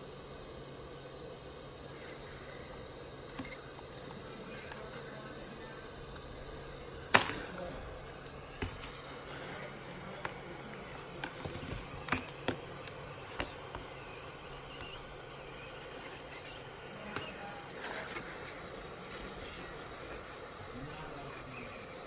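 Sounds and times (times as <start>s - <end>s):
heat gun blowing: 0.0s - 22.0s.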